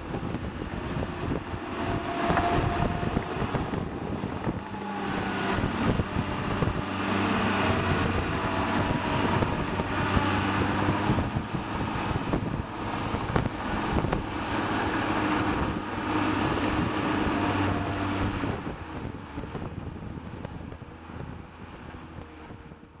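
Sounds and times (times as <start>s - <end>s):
earthmoving machines engine drone: 0.0s - 23.0s
wind buffeting microphone: 0.0s - 23.0s.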